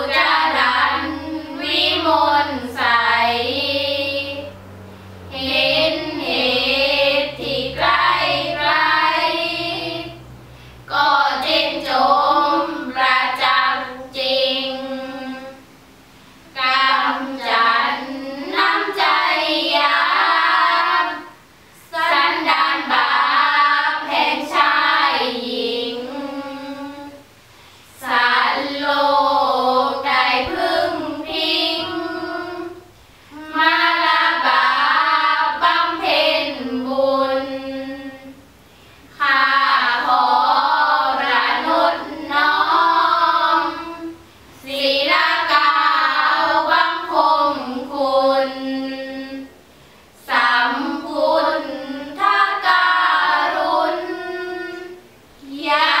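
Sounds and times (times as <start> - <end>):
girls chanting in unison: 0.0 - 15.8, 16.4 - 27.3, 27.9 - 49.6, 50.2 - 56.0.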